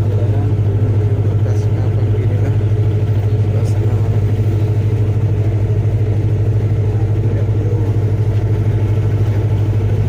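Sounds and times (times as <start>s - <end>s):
ferry engine droning: 0.0s - 10.0s.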